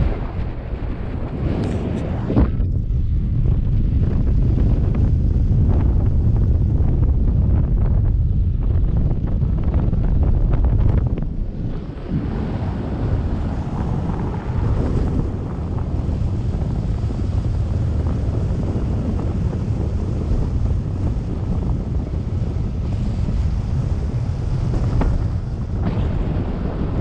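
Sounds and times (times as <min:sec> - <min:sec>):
wind rumble on microphone: 0:00.0 - 0:27.0.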